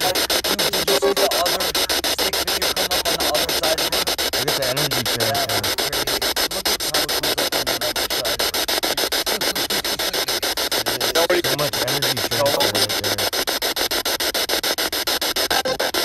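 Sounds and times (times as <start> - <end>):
chopped radio hiss: 0.0 - 16.0
snatches of broadcast sound: 0.0 - 16.0.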